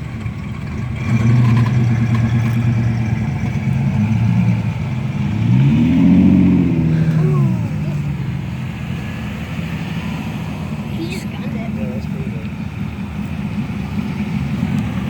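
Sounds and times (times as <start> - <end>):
car engine running and revving: 0.0 - 15.0.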